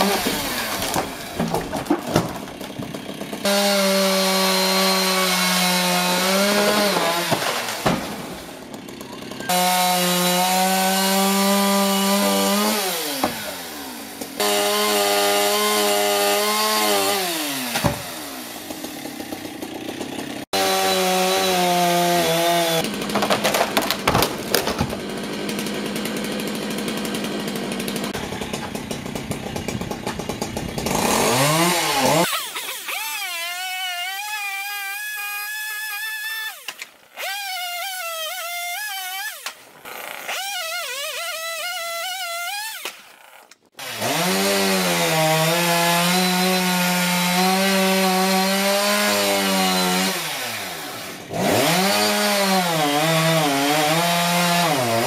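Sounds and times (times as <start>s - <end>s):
chainsaw cutting at full throttle: 0.0s - 55.0s.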